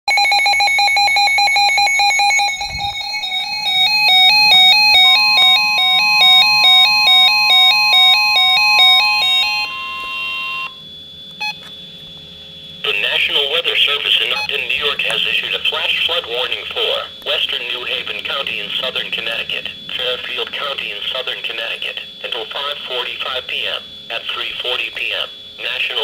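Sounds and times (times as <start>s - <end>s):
rapidly pulsing alarm tone: 0.1s - 26.0s
warbling two-pitch alarm tone: 0.1s - 26.0s
steady high tone: 0.7s - 26.0s.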